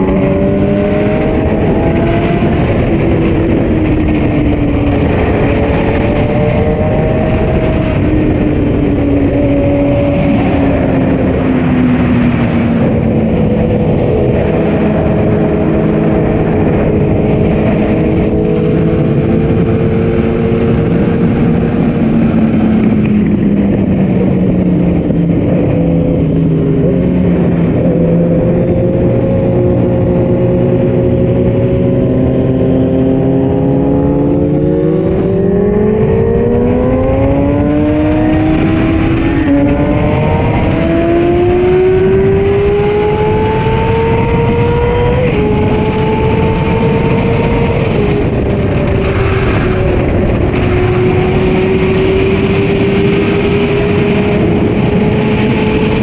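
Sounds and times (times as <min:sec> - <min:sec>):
motorcycle engine at speed: 0:00.0 - 0:56.0
wind rushing over microphone: 0:00.0 - 0:56.0.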